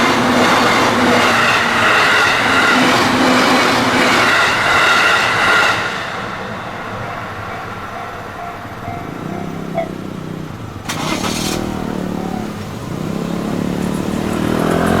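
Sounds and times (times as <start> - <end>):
vehicle engines accelerating: 0.0 - 15.0.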